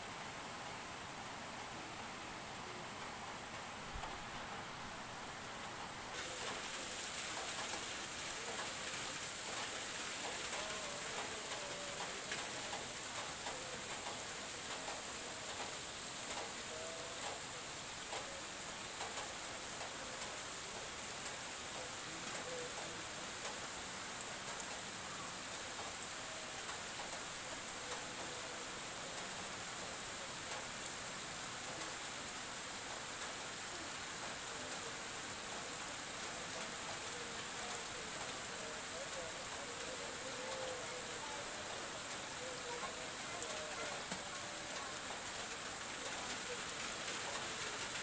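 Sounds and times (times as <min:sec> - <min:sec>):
light rain on grass and puddles: 0:00.0 - 0:48.0.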